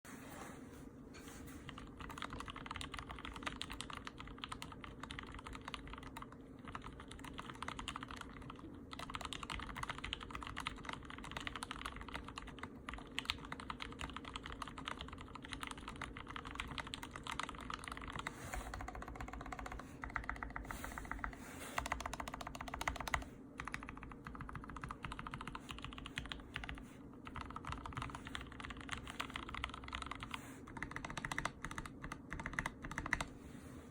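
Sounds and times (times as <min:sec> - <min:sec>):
fast typing on mechanical keyboard: 0:01.6 - 0:33.3.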